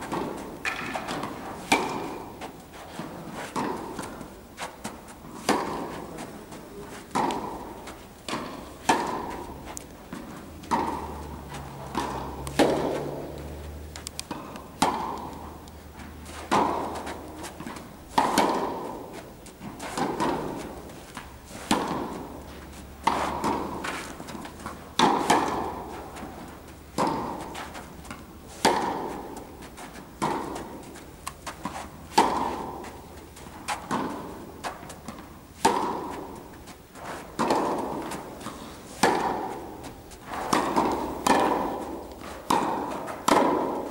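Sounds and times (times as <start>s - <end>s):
tennis balls bouncing on court: 0.0s - 43.9s
tennis balls struck by racquets: 0.0s - 43.9s.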